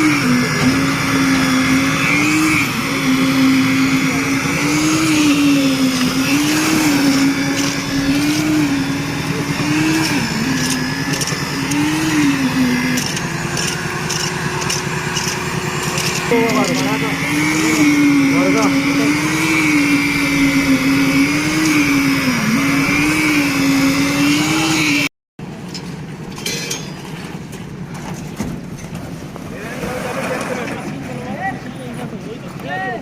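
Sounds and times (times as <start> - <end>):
engine running: 0.0 - 26.4.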